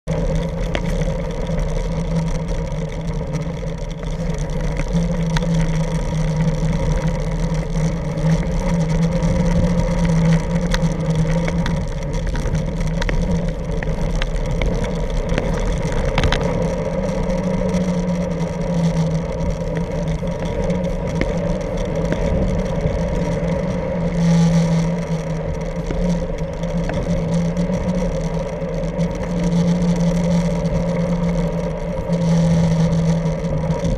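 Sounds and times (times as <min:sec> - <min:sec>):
scooter wheels rumbling on paving: 0:00.0 - 0:33.9
wheel clicks from bumps: 0:00.0 - 0:33.9.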